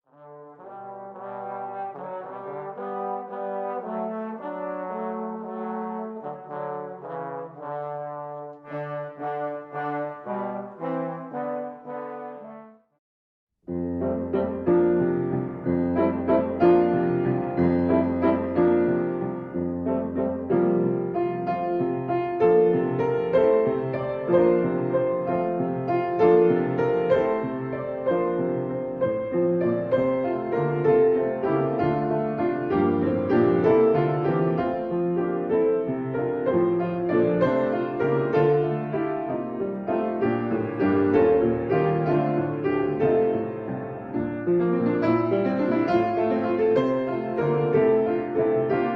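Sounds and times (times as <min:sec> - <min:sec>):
piano playing: 0:00.1 - 0:12.8, 0:13.6 - 0:48.9.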